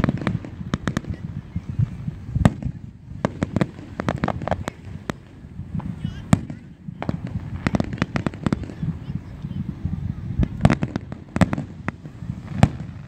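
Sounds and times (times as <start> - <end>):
fireworks bursting bangs: 0.0 - 13.0.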